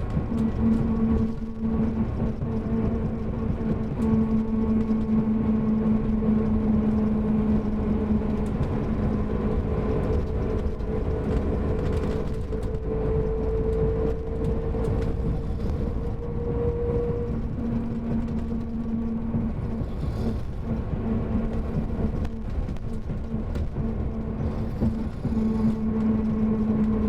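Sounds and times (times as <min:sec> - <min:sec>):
coach engine rumbling: 0:00.0 - 0:27.0.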